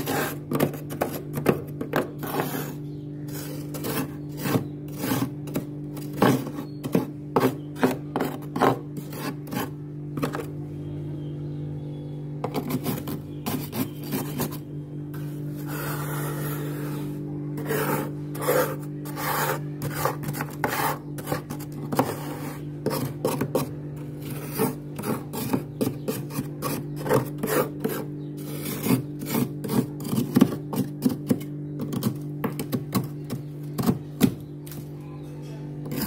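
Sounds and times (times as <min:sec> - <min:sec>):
metal spoon scraping frost: 0:00.0 - 0:10.5, 0:12.4 - 0:34.2, 0:35.4 - 0:36.0
steady low hum: 0:00.0 - 0:36.0.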